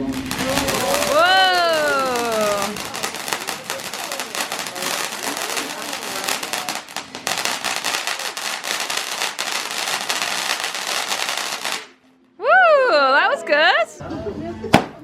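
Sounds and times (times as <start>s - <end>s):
firework crackling: 0.0s - 12.0s, 14.7s - 15.0s.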